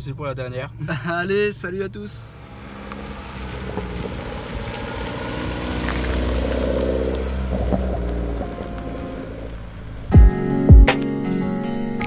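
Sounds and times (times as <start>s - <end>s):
car engine driving off: 1.5s - 12.0s.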